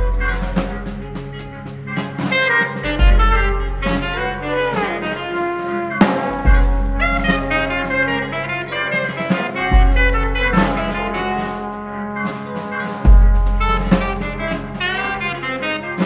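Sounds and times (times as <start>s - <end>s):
deep low note: 0.0s - 1.9s, 2.8s - 8.8s, 9.6s - 15.8s
drum kit: 0.0s - 16.0s
saxophone and horns playing: 0.0s - 16.0s.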